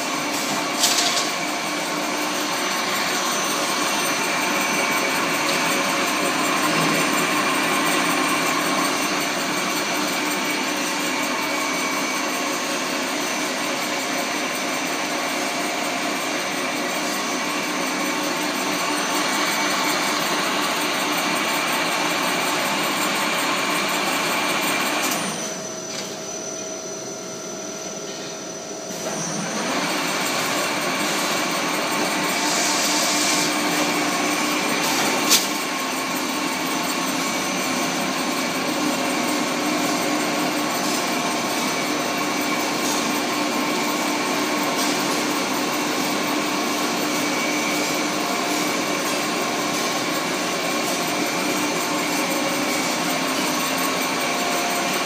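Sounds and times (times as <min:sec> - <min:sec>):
wire coiling machine running: 0:00.0 - 0:55.0.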